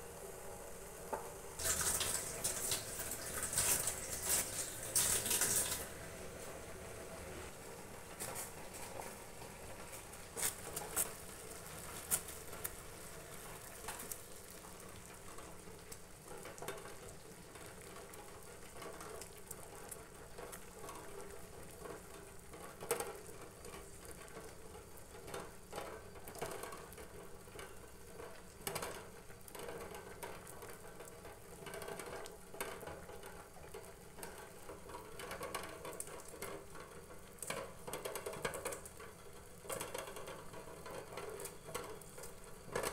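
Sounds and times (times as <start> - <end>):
pot bubbling: 0.0 - 42.9.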